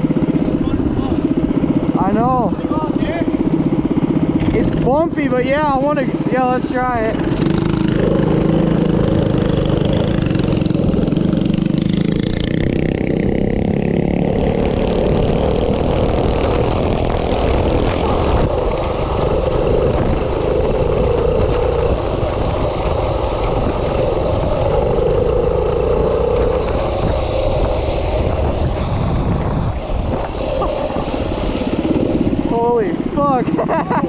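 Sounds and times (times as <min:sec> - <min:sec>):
heavy low rumble: 0:00.0 - 0:34.0
minibike engine running: 0:00.0 - 0:34.0.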